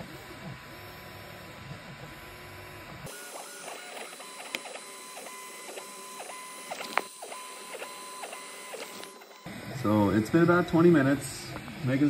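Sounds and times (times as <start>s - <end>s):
stepper motors whining: 2.2s - 12.0s.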